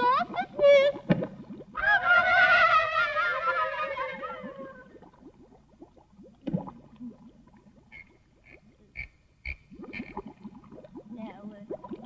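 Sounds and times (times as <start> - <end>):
cartoon underwater bubbling: 0.0 - 12.0.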